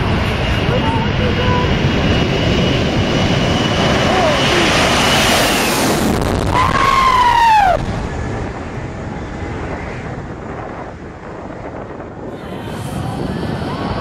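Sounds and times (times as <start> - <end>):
jet airliner roaring overhead: 0.0 - 14.0
jet blast rush: 0.0 - 14.0
wind on microphone: 0.0 - 14.0.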